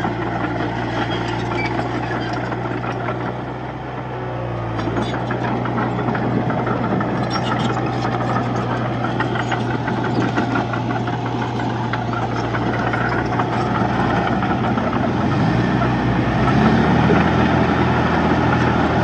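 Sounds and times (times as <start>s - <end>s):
bulldozer diesel engine: 0.0s - 19.0s.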